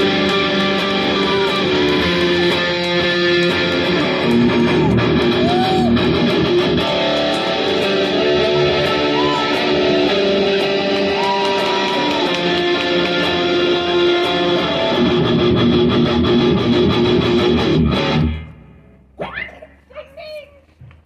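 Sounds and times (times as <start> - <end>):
guitar-driven rock music: 0.0 - 19.2.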